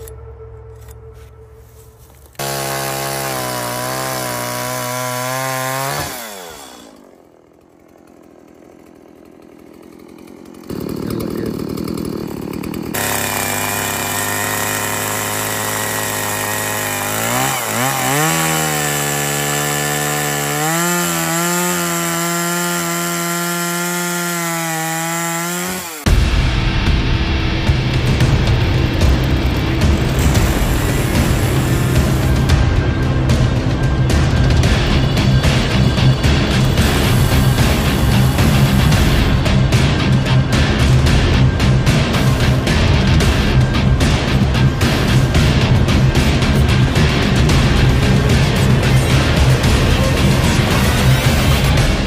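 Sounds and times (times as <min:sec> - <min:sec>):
electric power saw cutting wood: 0:02.3 - 0:26.4, 0:27.7 - 0:52.0.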